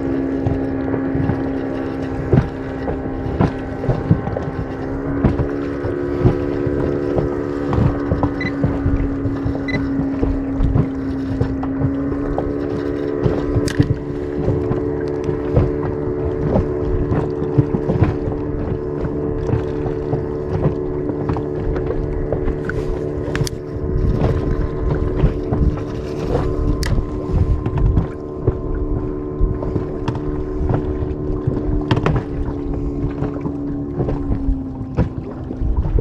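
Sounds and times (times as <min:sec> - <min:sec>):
outboard motor running: 0:00.0 - 0:36.0
wind buffeting microphone: 0:00.0 - 0:36.0.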